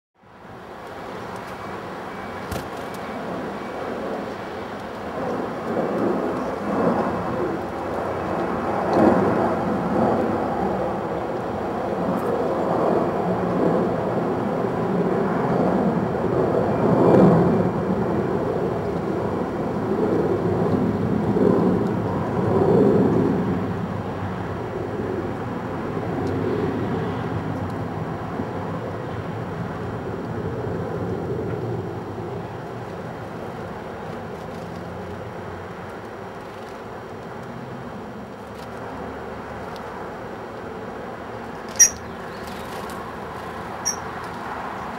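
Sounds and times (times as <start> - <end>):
distant road traffic: 0.2 - 15.0, 17.6 - 44.9.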